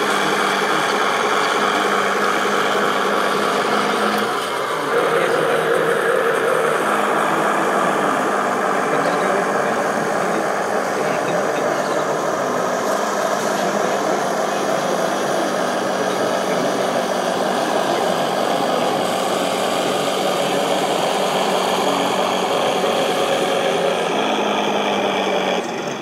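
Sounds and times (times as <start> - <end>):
model tank running: 0.0 - 26.0.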